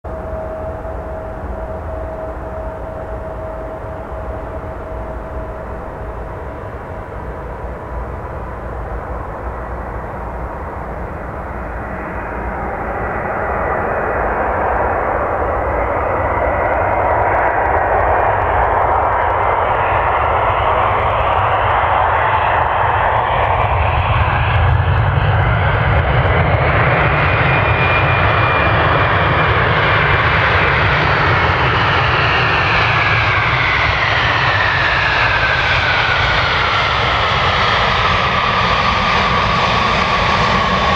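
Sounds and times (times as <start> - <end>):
jet airliner roar: 0.0 - 40.9
jet engine whines: 0.0 - 40.9.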